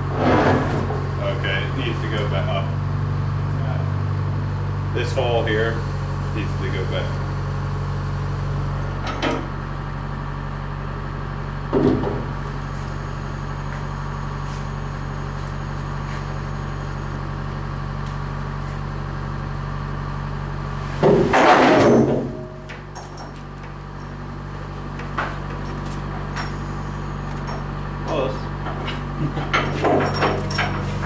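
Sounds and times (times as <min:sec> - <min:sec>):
crane engine droning: 0:00.0 - 0:31.0.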